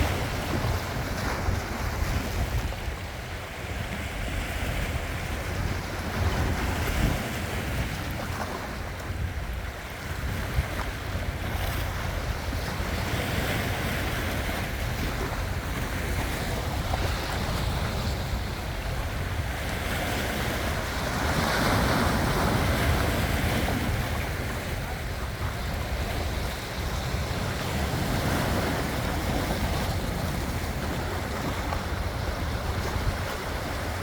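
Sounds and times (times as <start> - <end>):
sea waves washing on shore: 0.0 - 34.0
wind rumbling on microphone: 0.0 - 34.0.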